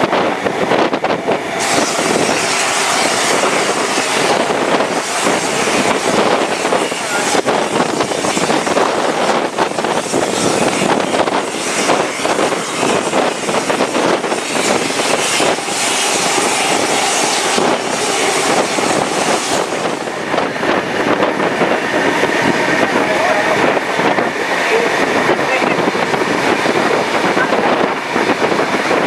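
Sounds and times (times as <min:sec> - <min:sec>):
train wheels roaring on rails: 0:00.0 - 0:29.0.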